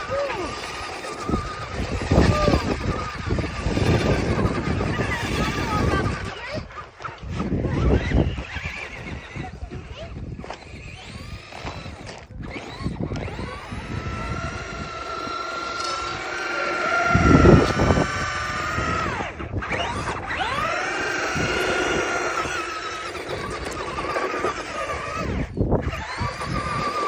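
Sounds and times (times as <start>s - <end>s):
radio-controlled car motors whining: 0.0s - 27.0s.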